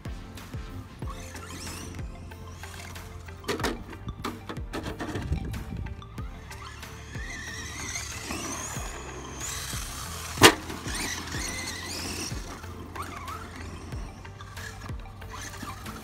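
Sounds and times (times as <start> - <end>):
toy truck electric motor whining: 1.1 - 16.0.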